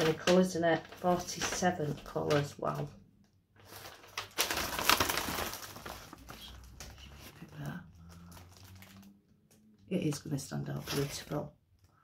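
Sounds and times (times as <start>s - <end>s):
paper and plastic crinkling: 0.0s - 3.0s, 3.6s - 11.4s.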